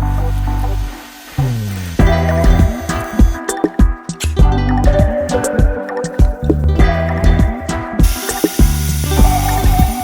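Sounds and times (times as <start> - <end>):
plucked guitar and bass music: 0.0 - 10.0.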